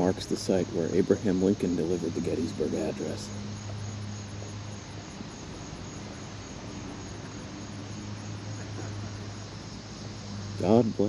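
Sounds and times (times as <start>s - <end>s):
crickets chirping: 0.0s - 11.0s
steady hiss: 0.0s - 11.0s.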